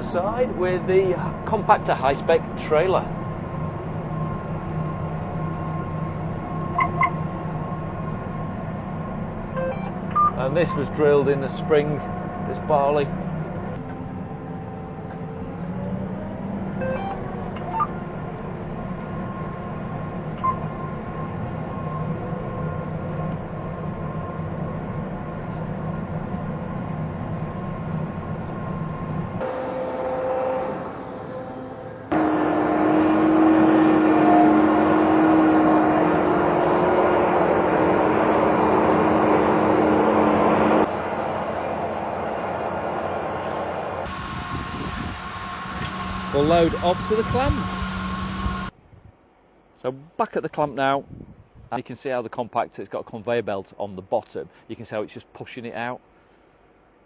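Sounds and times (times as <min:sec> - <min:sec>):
harvester engine and machinery drone: 0:00.0 - 0:48.8.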